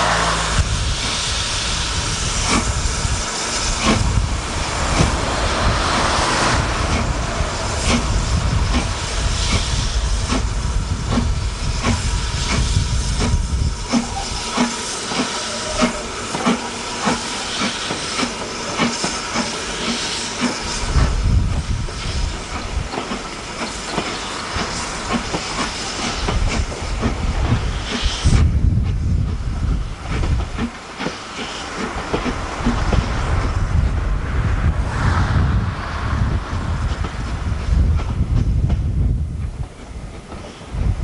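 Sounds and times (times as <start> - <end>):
loud steam hiss: 0.0 - 41.0
steam locomotive passing: 0.0 - 41.0.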